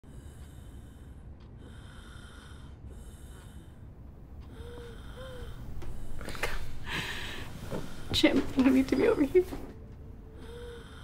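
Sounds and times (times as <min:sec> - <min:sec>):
woman breathing heavily: 0:00.0 - 0:08.6, 0:10.2 - 0:11.0.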